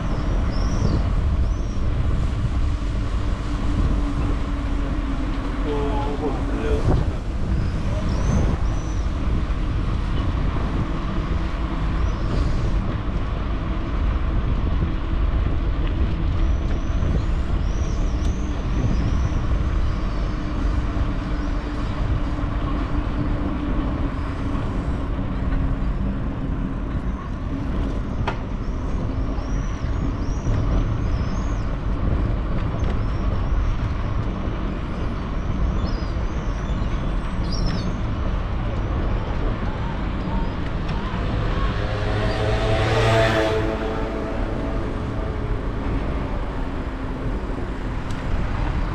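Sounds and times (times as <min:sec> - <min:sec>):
bicycle tyres rolling on street: 0:00.0 - 0:48.9
wind buffeting microphone: 0:00.0 - 0:48.9.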